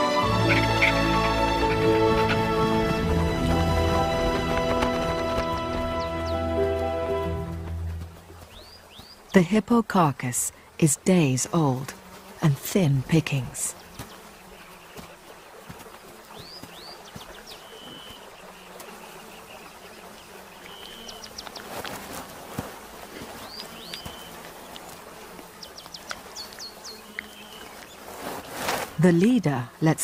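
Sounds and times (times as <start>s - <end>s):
flies buzzing: 0.0s - 30.0s.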